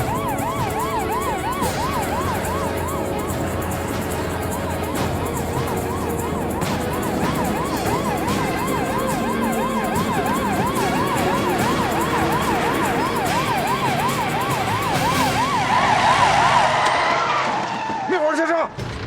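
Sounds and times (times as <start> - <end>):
police siren yelping: 0.0 - 18.1
cars on the road: 0.0 - 18.4.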